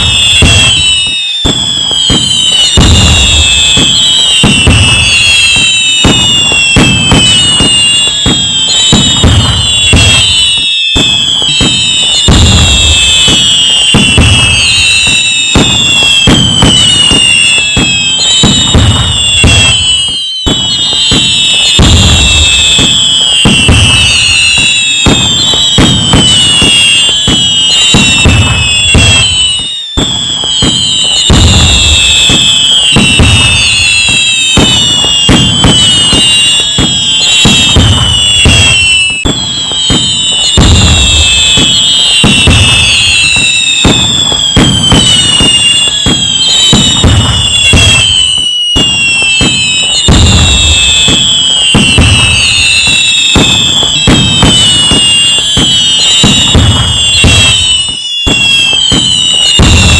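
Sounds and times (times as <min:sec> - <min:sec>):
firework bangs and booms: 0:00.0 - 0:59.9
whistling rockets: 0:00.0 - 0:59.9.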